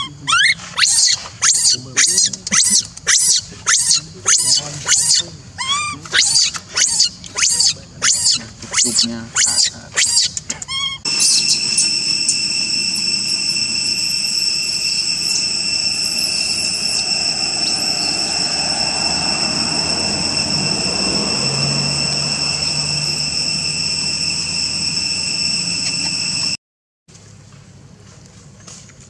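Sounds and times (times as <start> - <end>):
high-pitched insect drone: 0.0 - 5.3, 6.0 - 10.3, 11.1 - 26.6
faint high chirps: 0.0 - 26.6.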